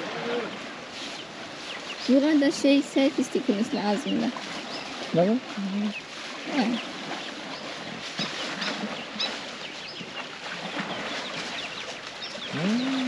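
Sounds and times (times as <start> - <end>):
small birds chirping: 0.4 - 2.3, 3.7 - 13.0.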